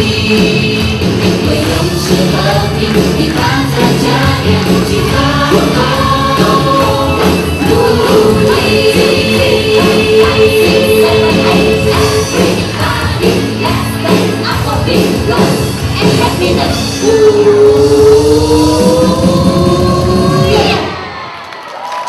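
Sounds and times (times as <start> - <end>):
loud music with singing: 0.0 - 21.3.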